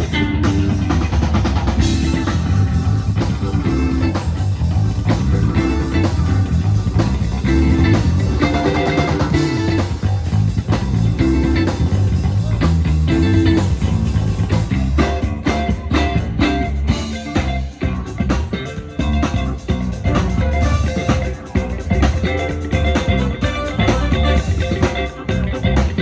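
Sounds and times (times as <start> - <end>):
blues band playing: 0.0 - 26.0
drum kit: 0.0 - 26.0
electric bass line: 0.0 - 26.0.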